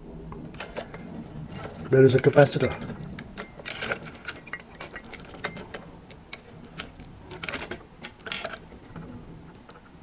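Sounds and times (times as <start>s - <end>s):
small plastic parts clicking and rattling: 0.3s - 10.0s
scraping rattle: 0.5s - 9.9s.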